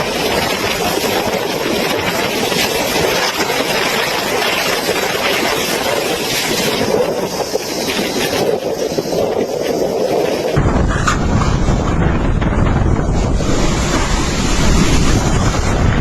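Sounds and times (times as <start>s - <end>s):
heavy rain: 0.0s - 16.0s
storm wind: 0.0s - 16.0s.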